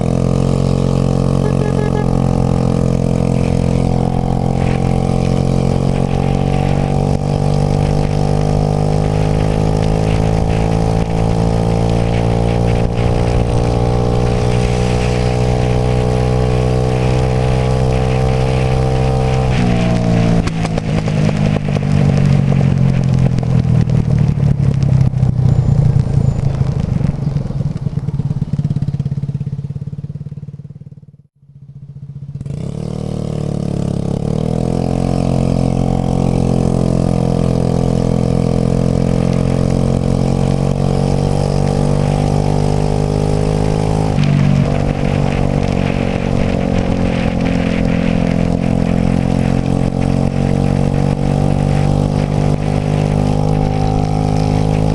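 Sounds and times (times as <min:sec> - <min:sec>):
scooter engine running: 0:00.0 - 0:54.9.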